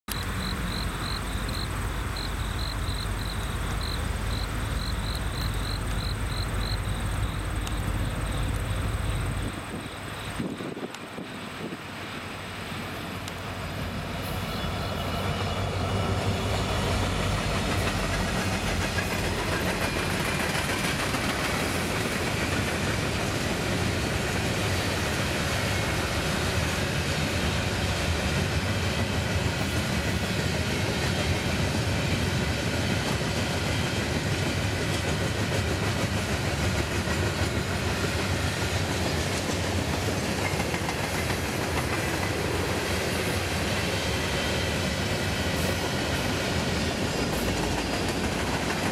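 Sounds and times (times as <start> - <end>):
diesel locomotive engines: 0.1 - 48.9
train wheels clattering on rail: 0.1 - 48.9.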